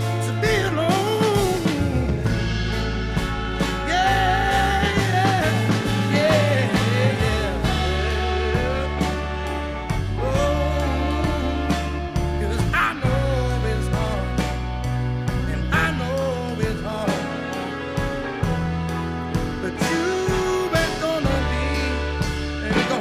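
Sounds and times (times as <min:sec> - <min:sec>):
bass notes: 0:00.0 - 0:23.0
drums: 0:00.0 - 0:23.0.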